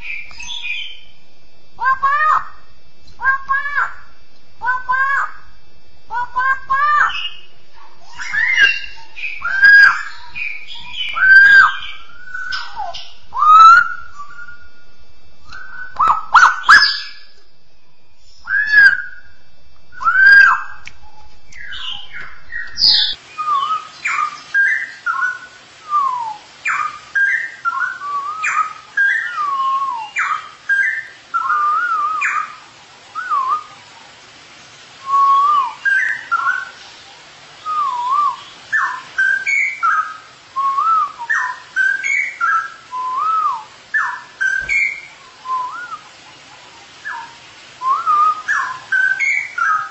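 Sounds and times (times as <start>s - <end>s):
bird whistling song: 0.0s - 17.5s, 18.2s - 33.8s, 35.0s - 37.0s, 37.6s - 46.2s, 47.0s - 49.9s.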